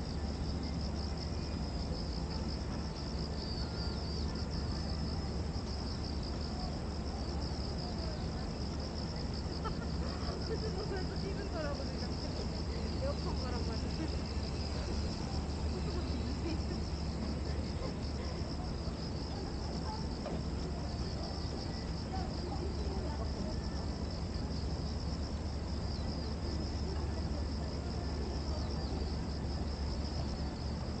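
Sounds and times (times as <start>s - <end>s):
cicadas droning: 0.0s - 31.0s.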